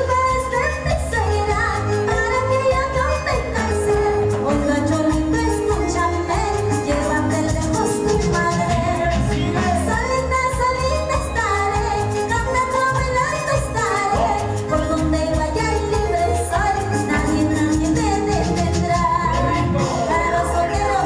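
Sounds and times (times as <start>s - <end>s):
keyboard: 0.0s - 21.0s
woman singing into microphone: 0.0s - 21.0s.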